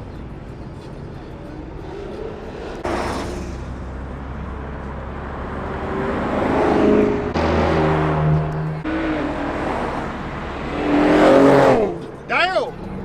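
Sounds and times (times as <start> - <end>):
fast cars on a freeway: 0.0 - 13.0
car engine accelerating: 0.8 - 13.0.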